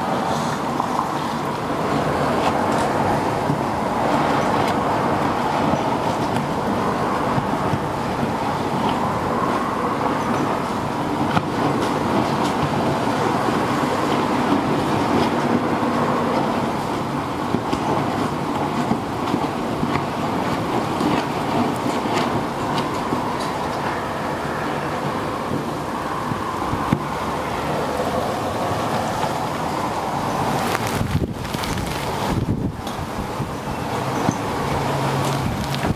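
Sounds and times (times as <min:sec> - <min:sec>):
strong storm wind: 0:00.0 - 0:35.9.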